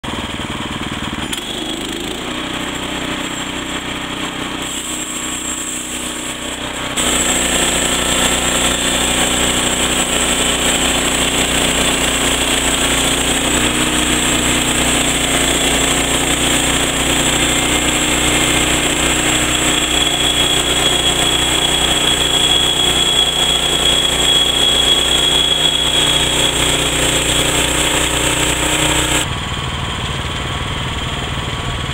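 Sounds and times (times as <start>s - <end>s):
sawmill engine running: 0.0s - 31.9s
band blade cutting log: 1.2s - 29.3s.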